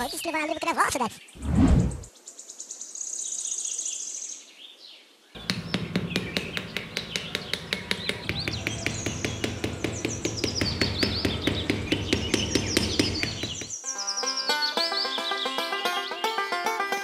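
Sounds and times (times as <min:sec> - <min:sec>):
birds chirping: 0:00.0 - 0:16.9.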